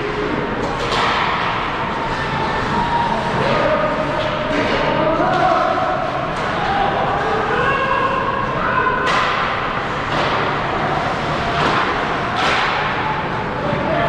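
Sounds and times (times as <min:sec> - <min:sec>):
puck and sticks hitting boards: 0:00.0 - 0:07.5, 0:08.9 - 0:14.0.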